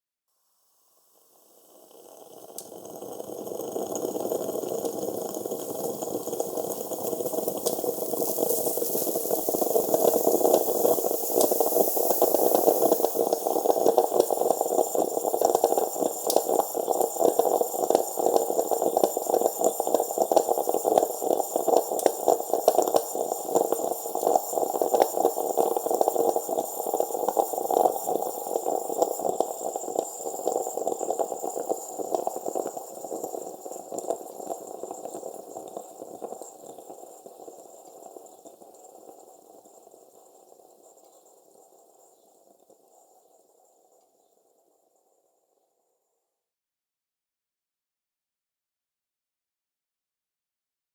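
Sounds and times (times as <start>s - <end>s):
coffee machine gurgling and hissing: 1.3s - 44.3s.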